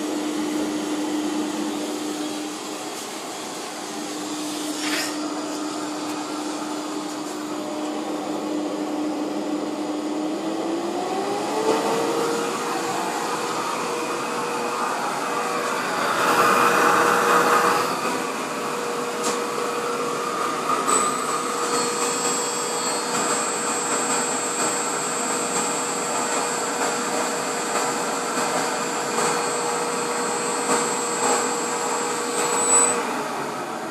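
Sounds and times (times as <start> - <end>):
high steady whine: 0.0 - 28.1
dust extractor running: 0.0 - 33.9.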